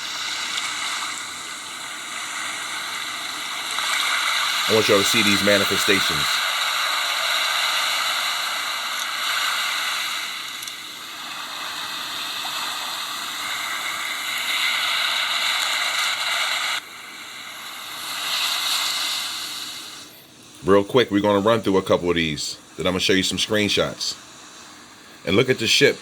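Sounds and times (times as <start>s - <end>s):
steady static hiss: 0.0s - 26.0s.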